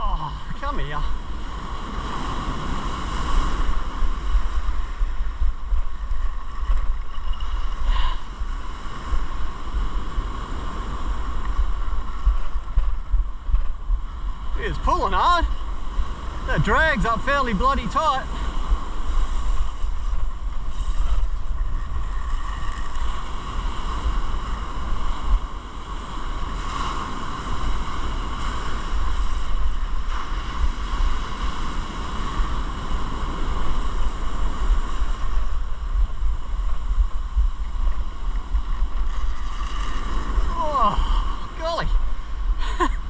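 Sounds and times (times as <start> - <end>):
surf breaking on beach: 0.0 - 43.0
wind rumbling on microphone: 0.0 - 43.0.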